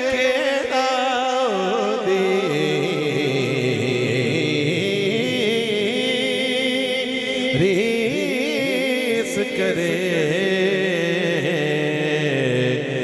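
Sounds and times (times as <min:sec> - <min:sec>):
man singing with vibrato: 0:00.0 - 0:13.0.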